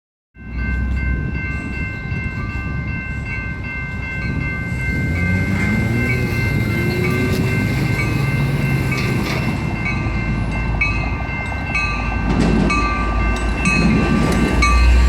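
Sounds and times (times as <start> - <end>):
train rumbling by: 0.4 - 15.0.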